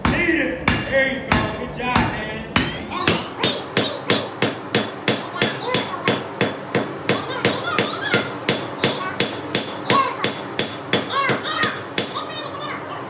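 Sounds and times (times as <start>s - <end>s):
hammer striking steel on anvil: 0.0s - 7.2s, 7.8s - 12.2s.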